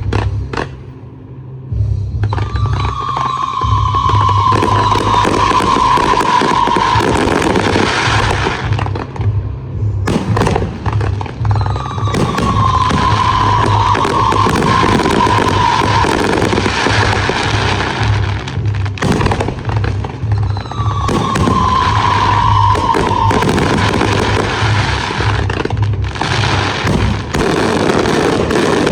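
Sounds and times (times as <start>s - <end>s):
fireworks crackling and popping: 0.0s - 1.0s, 2.2s - 28.9s
music with pulsing low beat: 0.0s - 28.9s.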